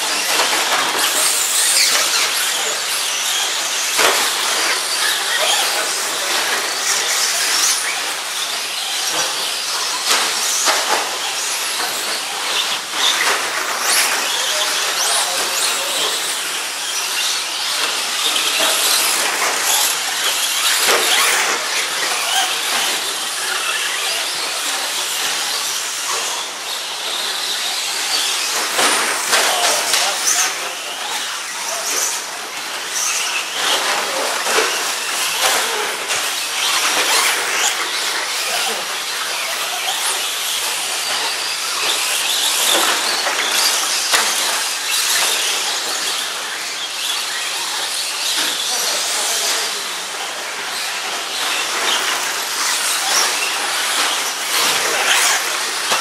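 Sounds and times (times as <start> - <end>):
rc truck motors whining: 0.0 - 56.0.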